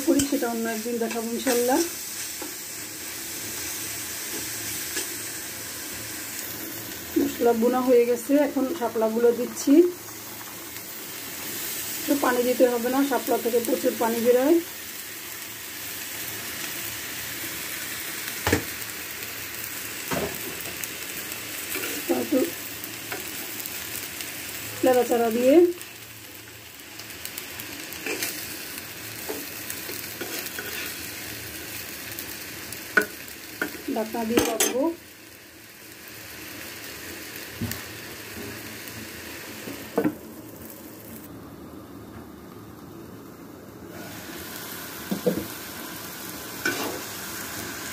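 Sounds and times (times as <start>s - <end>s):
stems sizzling in hot oil: 0.0s - 47.9s.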